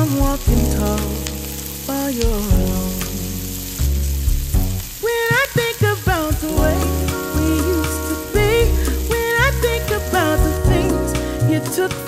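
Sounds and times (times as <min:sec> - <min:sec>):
background music with bass: 0:00.0 - 0:12.0
vegetables sizzling in oil: 0:00.0 - 0:12.0.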